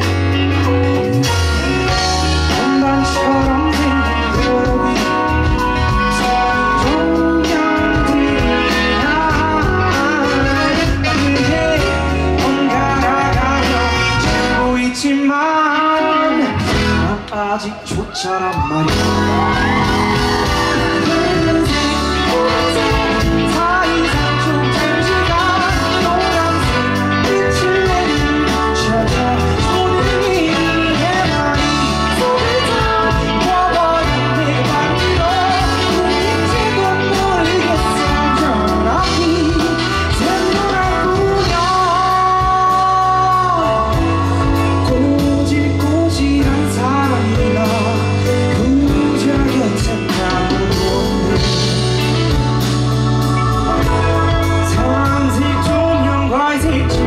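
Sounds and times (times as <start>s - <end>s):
man singing pop song: 0.0s - 52.4s, 53.3s - 57.0s
backing music: 0.0s - 57.0s.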